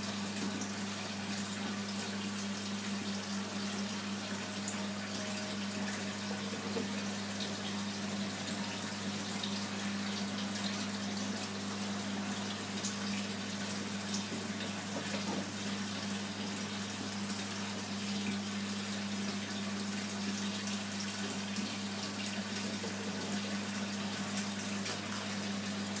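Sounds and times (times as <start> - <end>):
pump electrical hum: 0.0 - 26.0.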